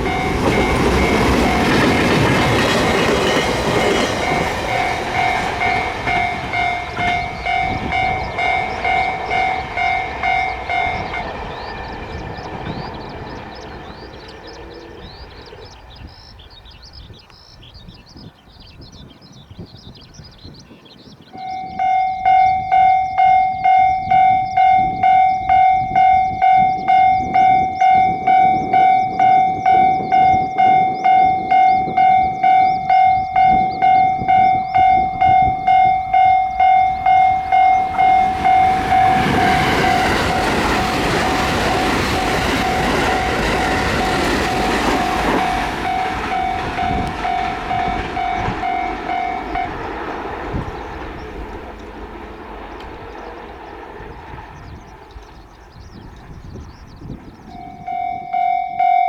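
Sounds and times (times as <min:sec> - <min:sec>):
level crossing warning bell: 0:00.0 - 0:16.8, 0:21.3 - 0:59.0
train wheels on rails: 0:00.0 - 0:59.0.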